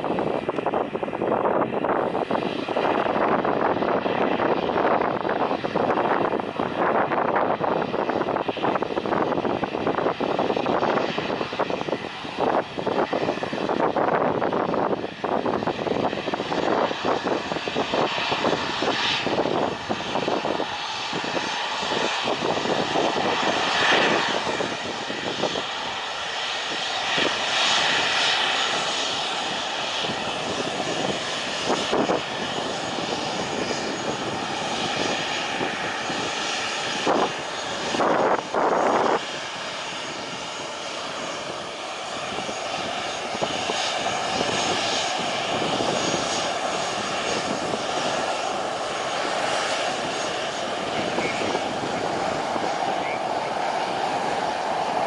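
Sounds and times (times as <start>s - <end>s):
airplane engines running: 0.0s - 55.0s.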